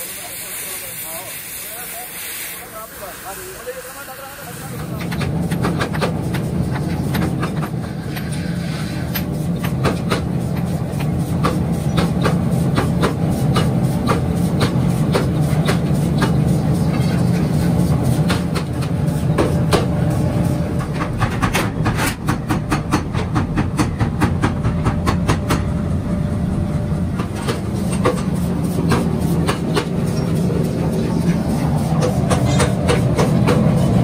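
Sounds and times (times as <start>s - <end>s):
low rumble of shop machinery: 2.8s - 34.0s.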